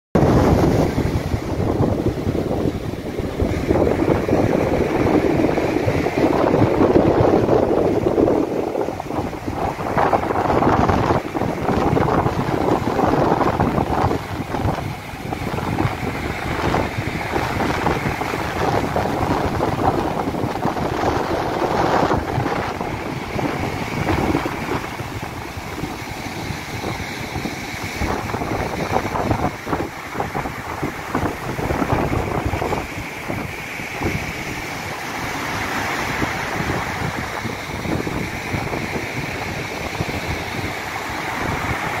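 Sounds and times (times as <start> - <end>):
sea waves breaking on shore: 0.2 - 42.0
wind buffeting microphone: 0.2 - 42.0.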